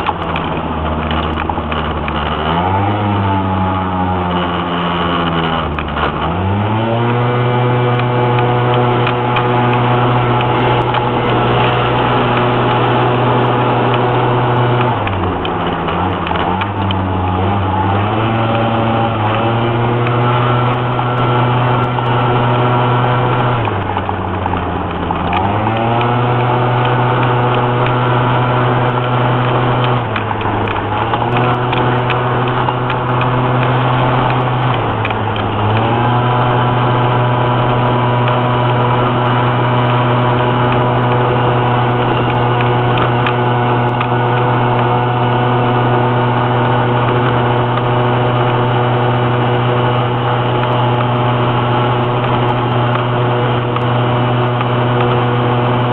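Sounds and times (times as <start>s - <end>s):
engine running under load: 0.0s - 55.9s.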